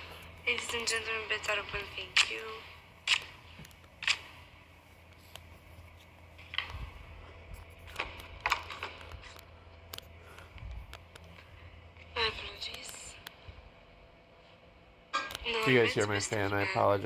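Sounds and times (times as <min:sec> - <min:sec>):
room fan humming: 0:00.0 - 0:17.0.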